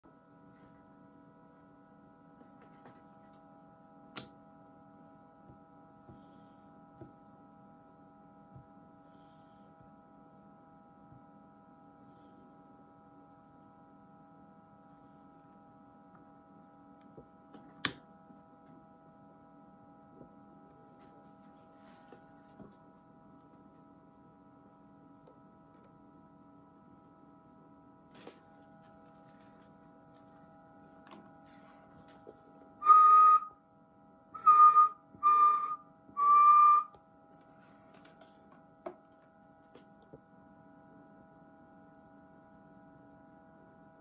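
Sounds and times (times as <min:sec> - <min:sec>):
faint electrical hum: 0:00.1 - 0:44.0.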